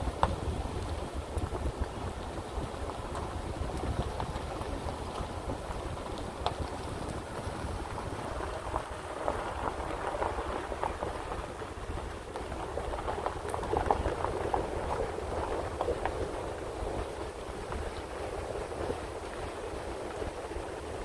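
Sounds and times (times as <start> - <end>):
tyres crunching over gravel: 0.0 - 19.5.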